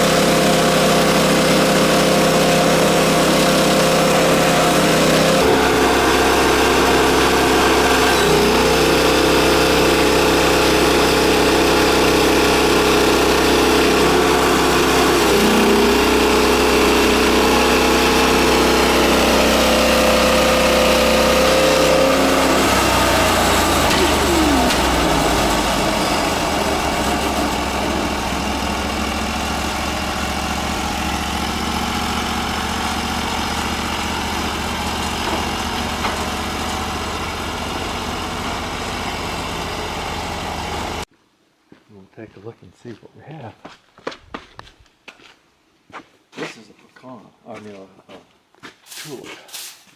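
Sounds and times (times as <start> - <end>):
small petrol engine running: 0.0 - 41.1.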